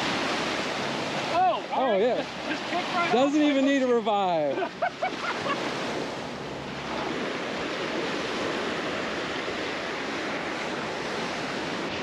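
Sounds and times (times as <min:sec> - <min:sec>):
surf washing over sand: 0:00.0 - 0:12.0.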